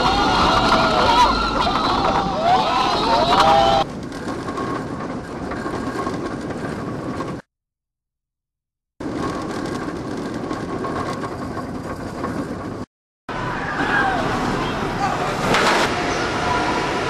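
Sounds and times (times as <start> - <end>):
roller coaster train on track: 0.0 - 7.5, 9.0 - 17.0.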